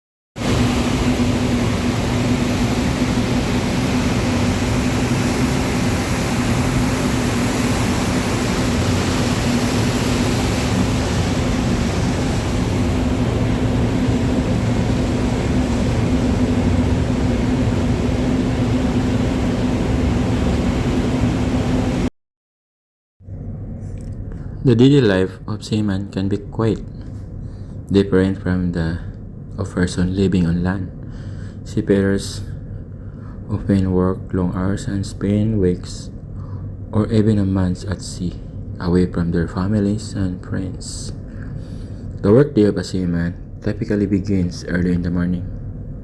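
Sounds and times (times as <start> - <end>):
engine room machinery drone: 0.4 - 22.1, 23.2 - 46.0.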